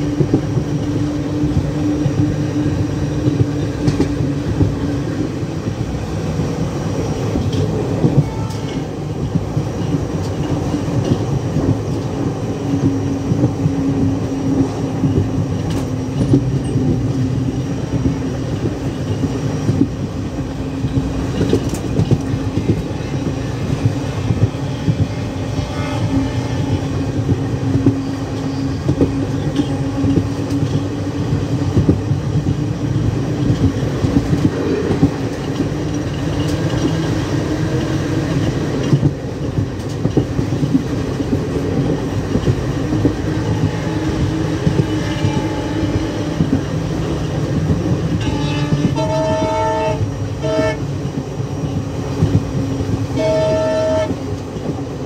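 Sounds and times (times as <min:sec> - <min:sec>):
train wheels rumbling: 0:00.0 - 0:55.0
wheels clicking over rail joints: 0:00.0 - 0:55.0.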